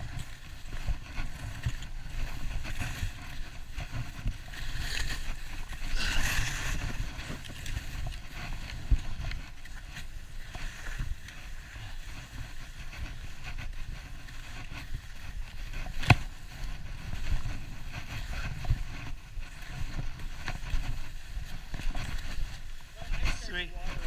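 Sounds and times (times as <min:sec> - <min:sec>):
skis scraping over snow: 0:00.0 - 0:24.0
wind rumble on microphone: 0:00.0 - 0:24.0.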